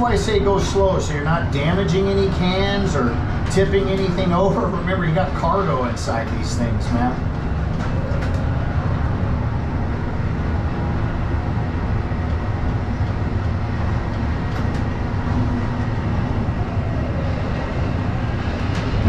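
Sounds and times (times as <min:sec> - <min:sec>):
crane machinery drone: 0:00.0 - 0:19.0.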